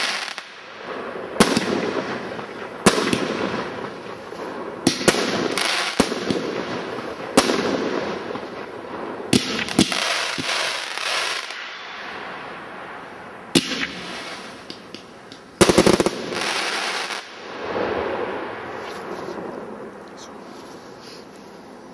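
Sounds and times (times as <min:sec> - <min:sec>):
fireworks bangs: 0:00.0 - 0:20.1.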